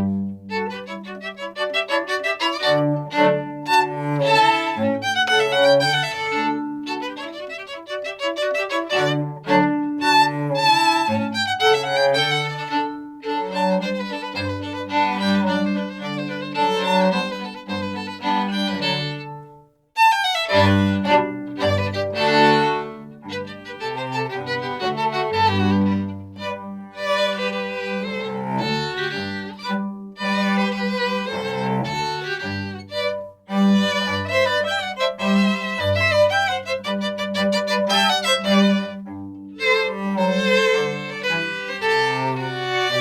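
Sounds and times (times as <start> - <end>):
baroque string orchestra: 0.0 - 43.0.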